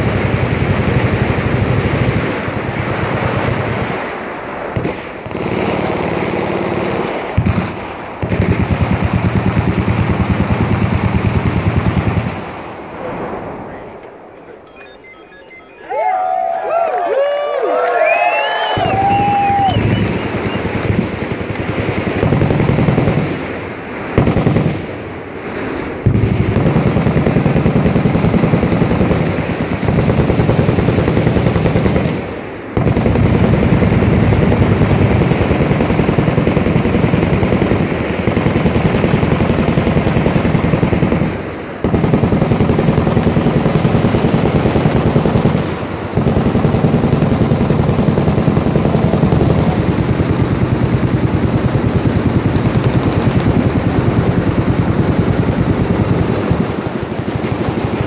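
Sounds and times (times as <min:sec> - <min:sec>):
machine-gun fire: 0:00.0 - 0:04.1, 0:04.7 - 0:12.6, 0:18.8 - 0:58.0.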